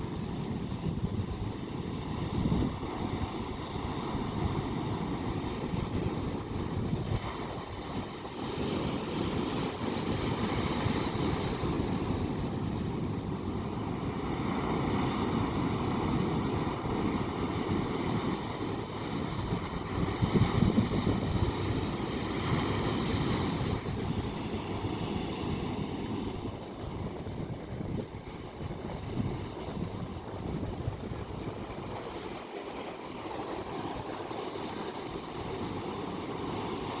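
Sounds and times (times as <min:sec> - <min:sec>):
ocean waves washing in: 0:00.0 - 0:37.0.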